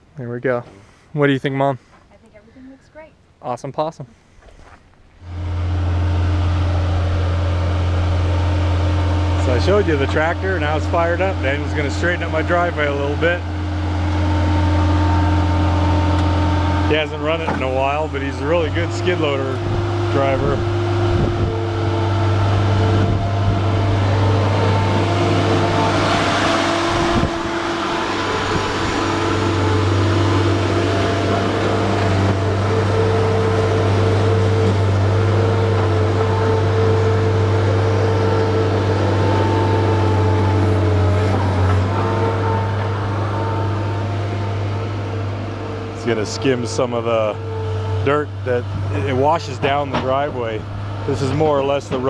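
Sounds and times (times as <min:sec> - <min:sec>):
loader engine running: 0:05.0 - 0:52.0.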